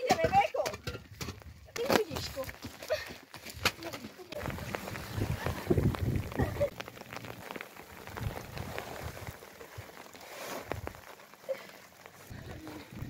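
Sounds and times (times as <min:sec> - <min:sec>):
plastic sheeting crinkling: 0:01.8 - 0:13.0.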